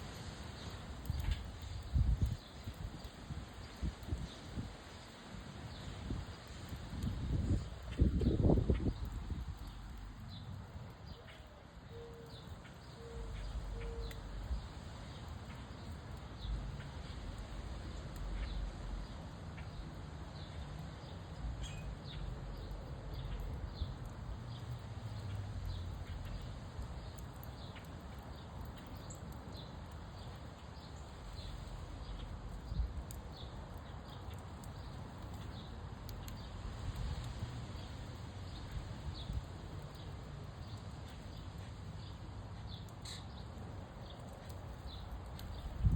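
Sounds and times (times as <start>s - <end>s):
low rush of wind: 0.0s - 45.9s
wood fire crackling and popping: 0.0s - 45.9s.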